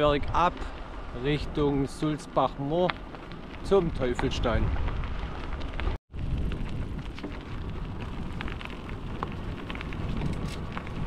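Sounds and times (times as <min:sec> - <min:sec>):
bike tyres rolling: 0:00.0 - 0:11.0
wind noise on microphone: 0:00.0 - 0:11.0
small clicks and crackles: 0:02.0 - 0:11.0.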